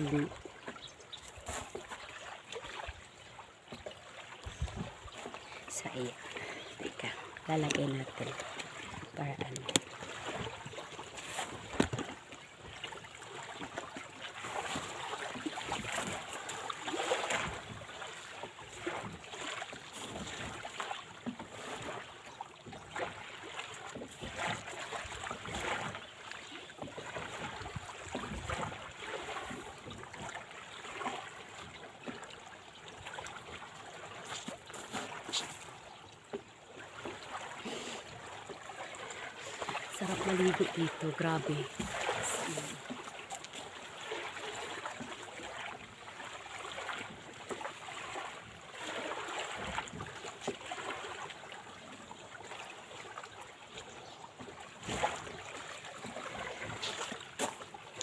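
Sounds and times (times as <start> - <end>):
sea water lapping and splashing: 0.0 - 58.0.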